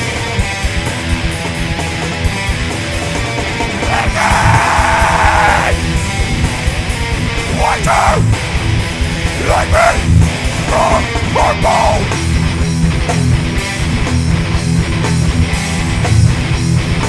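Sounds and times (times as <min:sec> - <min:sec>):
hard rock band playing: 0:00.0 - 0:17.0.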